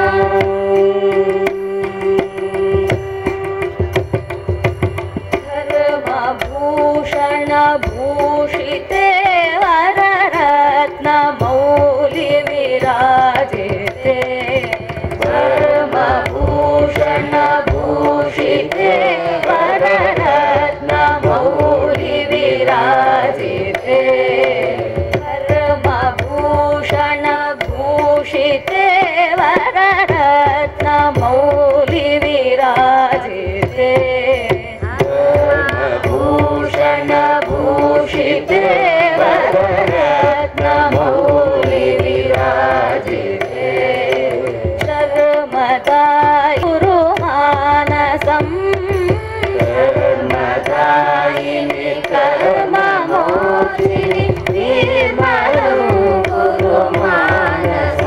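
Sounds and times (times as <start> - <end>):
women singing devotional song: 0.0 - 58.0.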